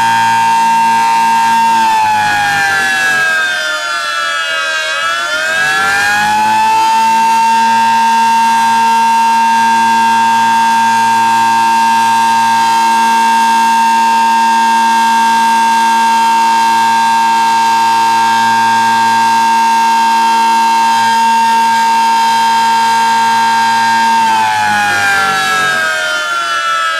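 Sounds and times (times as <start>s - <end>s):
siren low tone: 0.0s - 26.9s
warning siren high tone: 0.0s - 26.9s.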